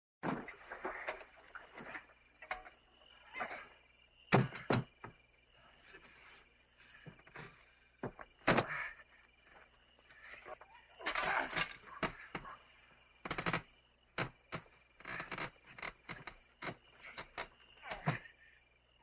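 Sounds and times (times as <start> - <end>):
crickets chirping: 0.3 - 19.0.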